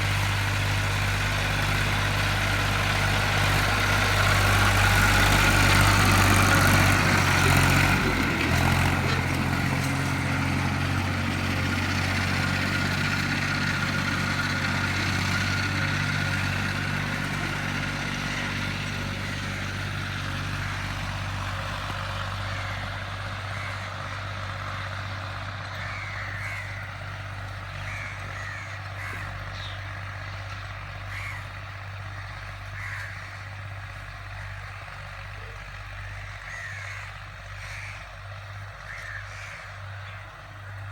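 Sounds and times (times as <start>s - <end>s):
birds calling: 0.0s - 40.9s
tractor engine running: 0.0s - 40.9s.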